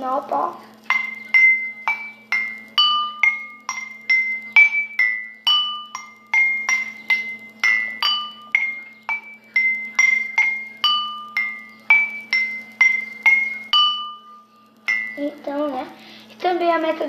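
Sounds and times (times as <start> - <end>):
faint steady hum: 0.0 - 17.0
water glasses struck ringing: 0.8 - 15.4.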